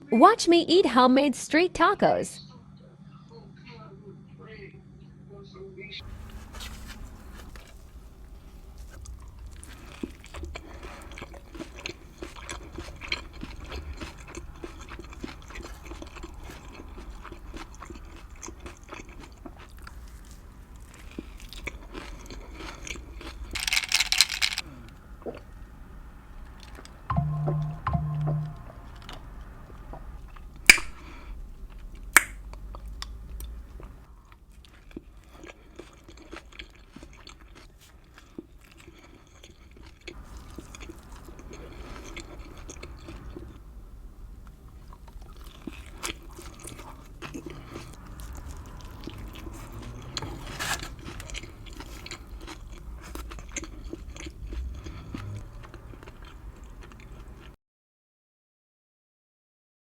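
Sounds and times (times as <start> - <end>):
close chewing with crunches: 6.0 - 27.1, 28.9 - 57.6.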